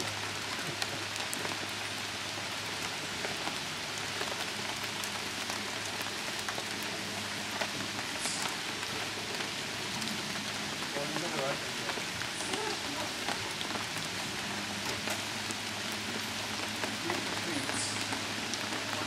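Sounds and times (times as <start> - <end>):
rain on tents and leaves: 0.0 - 19.0.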